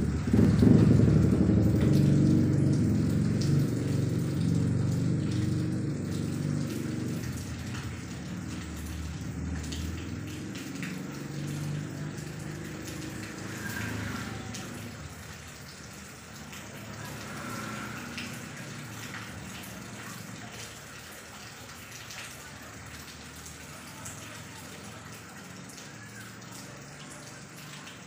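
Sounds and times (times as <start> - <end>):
rain on a corrugated roof: 0.0 - 28.0
water dripping off roof edge: 0.0 - 28.0.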